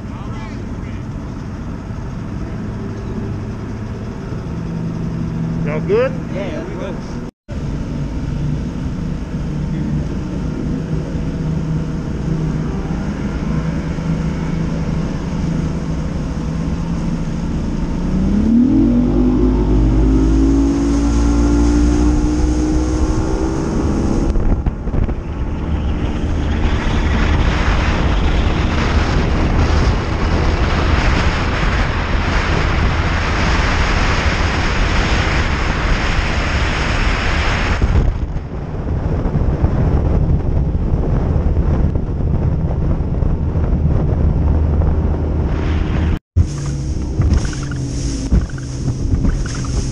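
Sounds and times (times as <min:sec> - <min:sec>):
outboard motor: 0:00.0 - 0:49.9
rush of wind and water: 0:00.0 - 0:49.9.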